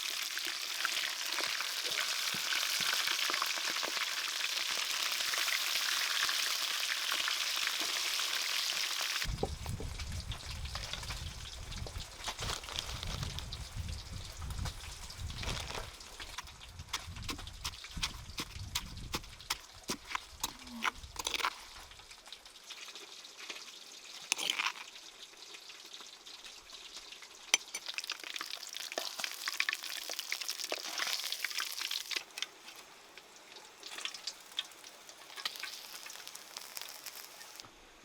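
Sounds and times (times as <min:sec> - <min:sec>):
food sizzling in a pan: 0:00.0 - 0:20.8, 0:21.6 - 0:37.7.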